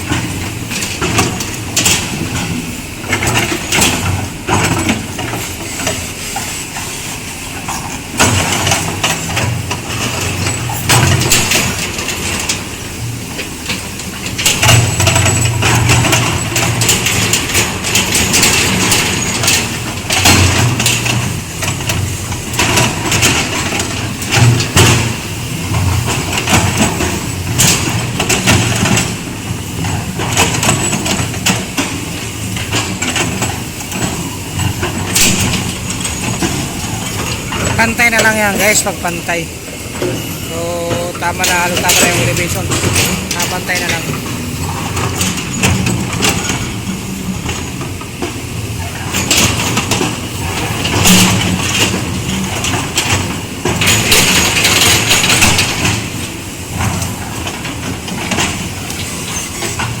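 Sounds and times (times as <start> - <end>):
excavator bucket clanking: 0.0 - 60.0
excavator diesel engine working: 0.0 - 60.0.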